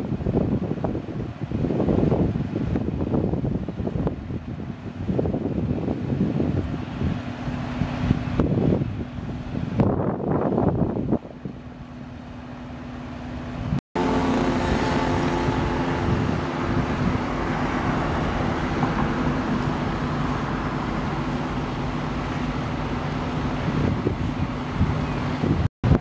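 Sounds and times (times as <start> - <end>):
fire engine engine humming: 3.7 - 26.0.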